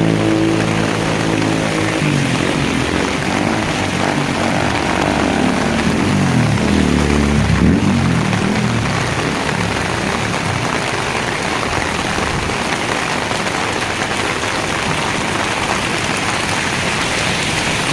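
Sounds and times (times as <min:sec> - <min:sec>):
heavy rain hissing: 0:00.0 - 0:17.9
vehicle engine running: 0:00.0 - 0:17.9.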